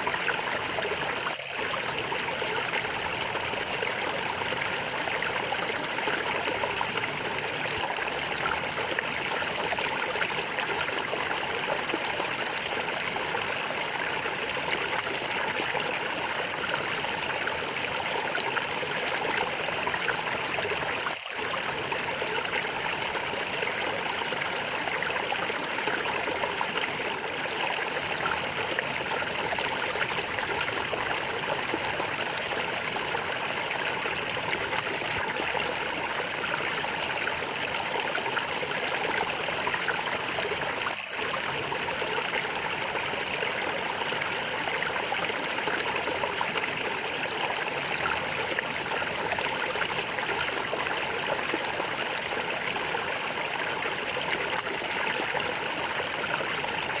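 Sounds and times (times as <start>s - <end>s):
stream water flowing and gurgling: 0.0s - 57.0s.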